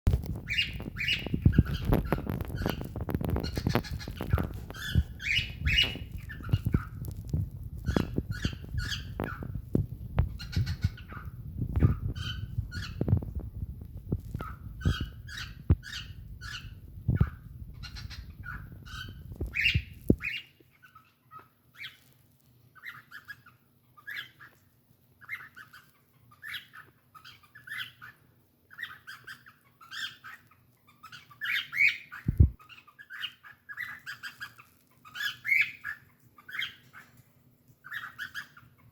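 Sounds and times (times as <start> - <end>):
cockatiel chirping and chattering: 0.1 - 38.9.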